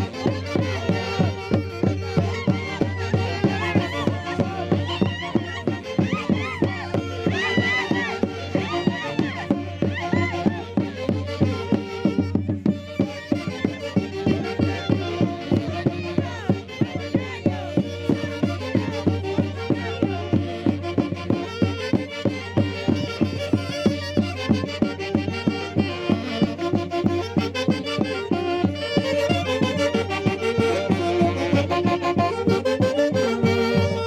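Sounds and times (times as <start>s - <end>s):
festival band music: 0.0s - 34.0s.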